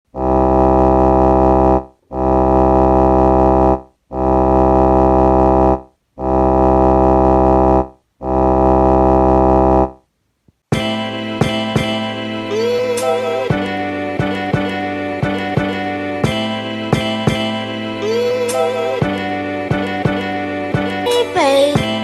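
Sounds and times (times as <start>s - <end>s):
sustained keyboard chords: 0.1s - 10.0s, 10.7s - 22.0s.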